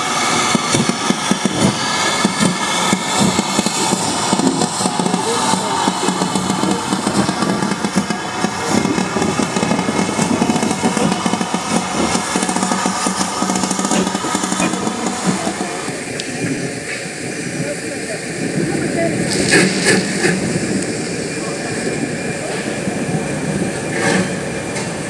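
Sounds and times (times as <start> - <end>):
steam locomotive moving slowly: 0.0 - 25.0.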